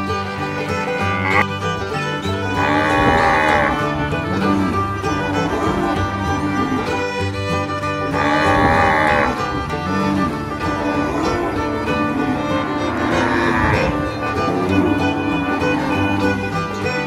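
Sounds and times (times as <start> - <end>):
string music: 0.0 - 17.0
cow mooing: 1.0 - 1.5, 2.3 - 7.0, 7.9 - 16.8.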